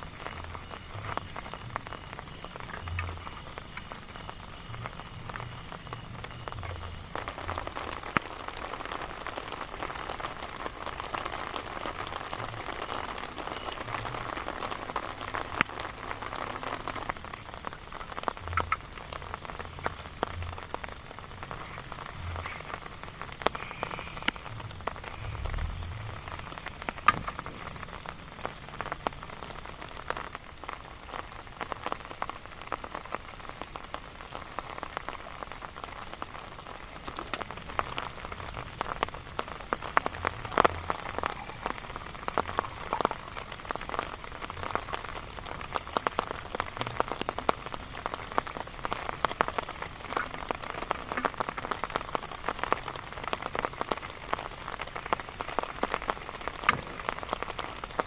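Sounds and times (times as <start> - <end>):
rain falling: 0.0 - 58.0
raindrops landing close by: 0.0 - 58.0.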